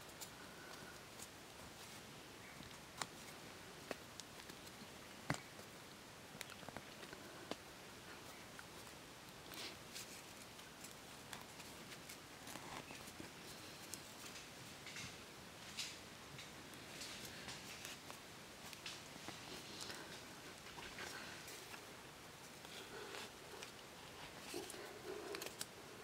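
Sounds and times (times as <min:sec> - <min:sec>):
soft rustling: 0:00.0 - 0:26.0.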